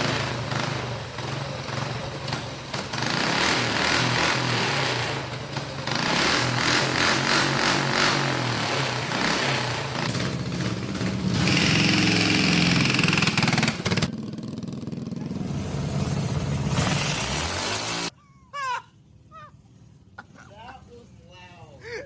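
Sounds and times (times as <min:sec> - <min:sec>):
mini bike engine under throttle: 0:00.0 - 0:18.1.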